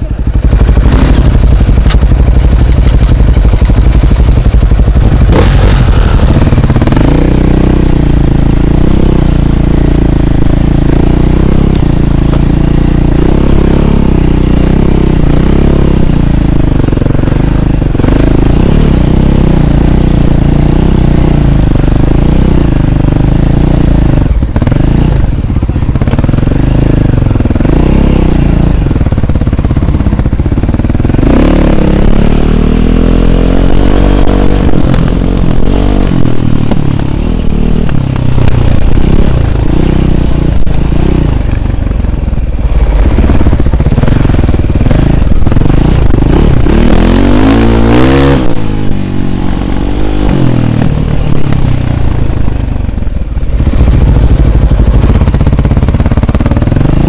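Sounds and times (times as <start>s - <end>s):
dirt bike engine revving: 0.0s - 52.6s, 53.4s - 57.0s.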